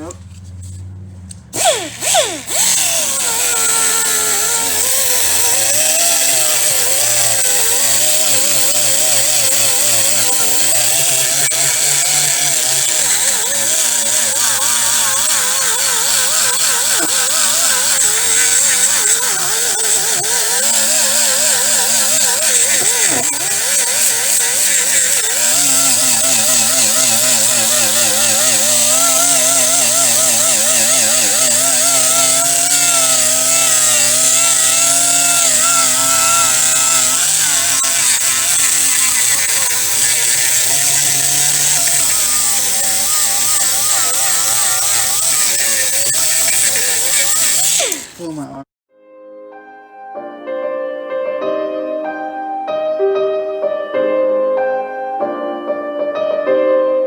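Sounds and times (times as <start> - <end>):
power tool stripping rust from metal: 1.3 - 48.7.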